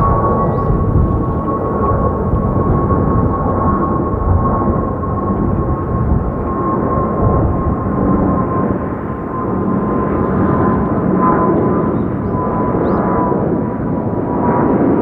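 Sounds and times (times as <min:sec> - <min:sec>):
jet engines running with whine: 0:00.0 - 0:15.0.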